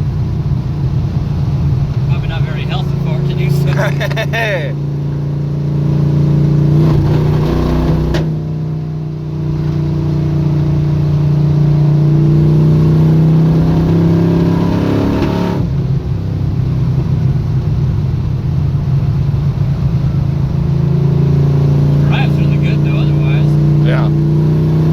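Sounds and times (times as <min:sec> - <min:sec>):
truck engine droning: 0:00.0 - 0:24.9.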